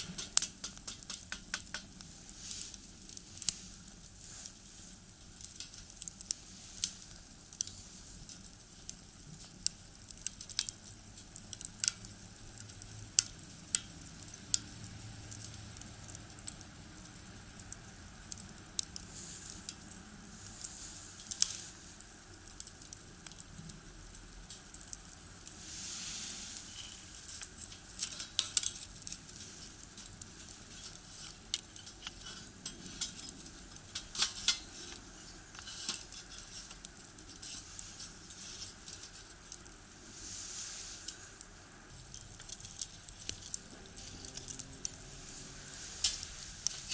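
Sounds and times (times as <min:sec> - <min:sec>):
firewood crackling and popping: 0:00.0 - 0:46.9
low steady hiss: 0:00.0 - 0:46.9.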